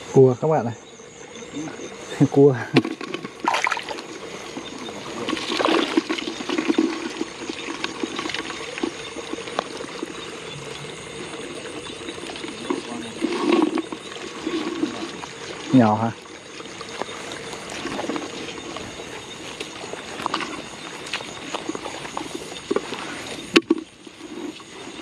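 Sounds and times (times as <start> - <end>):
water splashing and trickling: 1.8 - 25.0.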